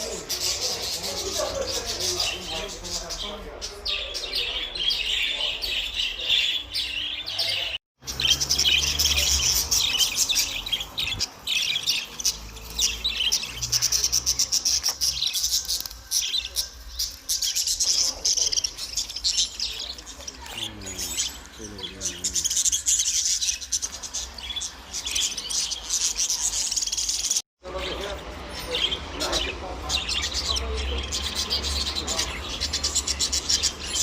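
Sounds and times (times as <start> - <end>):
finch twittering song: 0.0 - 34.0.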